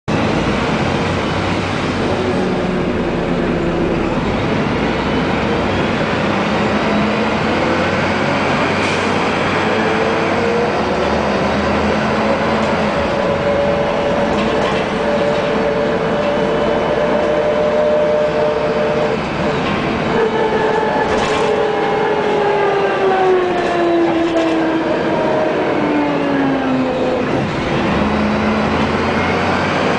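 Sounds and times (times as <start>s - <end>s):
bus engine and road noise: 0.1s - 29.9s
bus retarder whine: 0.1s - 29.9s.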